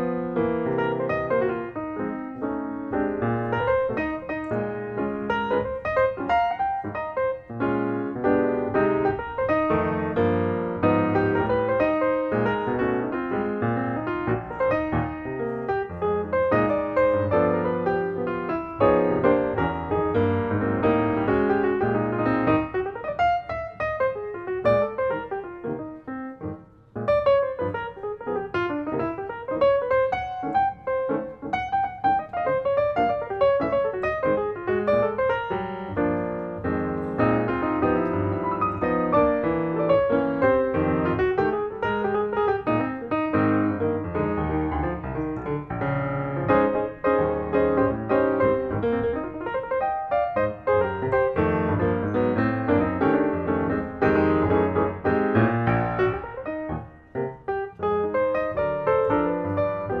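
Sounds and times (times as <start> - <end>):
piano music: 0.0 - 60.0.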